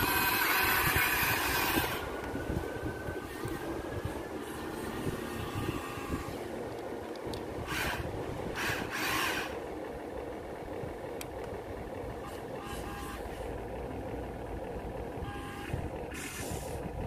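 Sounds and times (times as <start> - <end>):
toy excavator motors whining: 0.0 - 10.1, 11.1 - 13.7, 15.2 - 16.9.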